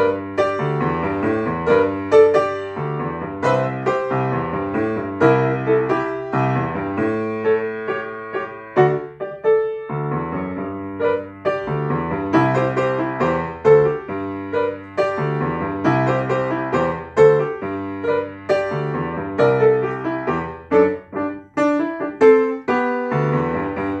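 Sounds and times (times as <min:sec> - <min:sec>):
solo piano chords: 0:00.0 - 0:24.0.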